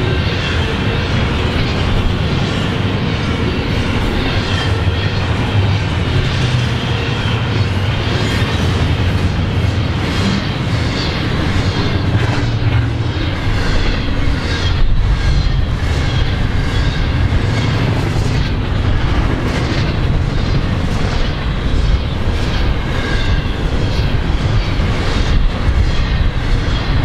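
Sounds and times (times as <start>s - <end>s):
freight train rumbling on rails: 0.0s - 27.0s.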